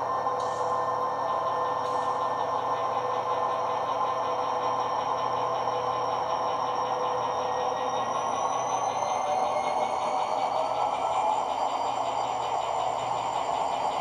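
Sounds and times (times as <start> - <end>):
diesel locomotive engine sound: 0.0 - 14.0.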